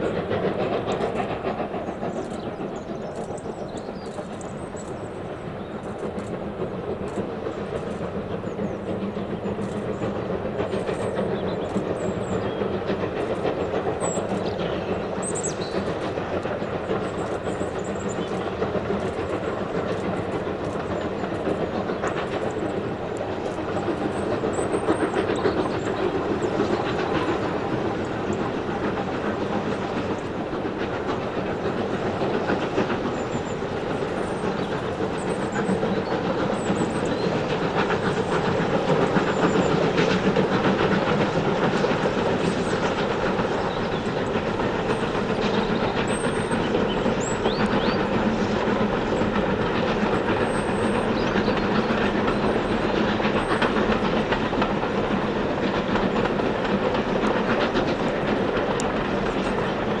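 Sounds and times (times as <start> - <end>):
steam locomotive exhaust beats: 0.0 - 60.0.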